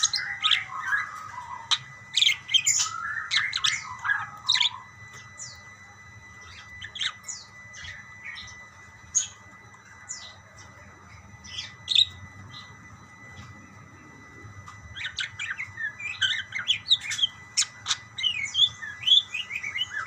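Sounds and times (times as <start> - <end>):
parakeets chirping and squawking: 0.0 - 5.7, 6.4 - 13.8, 14.6 - 20.0
faint steady high tone: 0.0 - 20.0.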